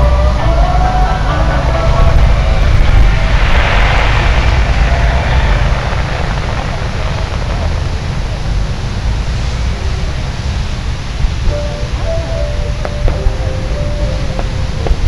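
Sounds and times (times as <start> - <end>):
fireworks hissing crackle: 0.0 - 15.0
fireworks low rumble: 0.0 - 15.0.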